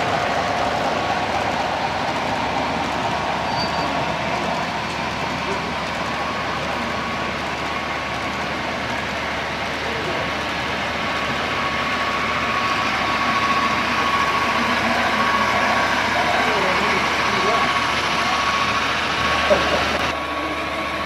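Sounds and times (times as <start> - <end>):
hubbub of busy hall: 0.0 - 21.0
model train running with whine: 0.0 - 21.0.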